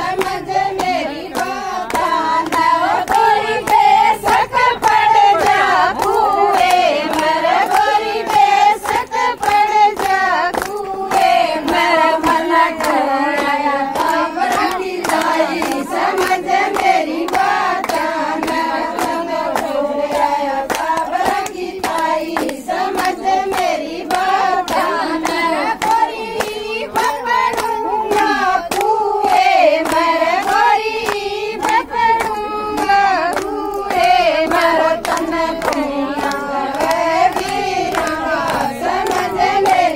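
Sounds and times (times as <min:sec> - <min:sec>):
rhythmic hand-clapping: 0:00.0 - 0:39.9
women singing folk song: 0:00.0 - 0:39.9.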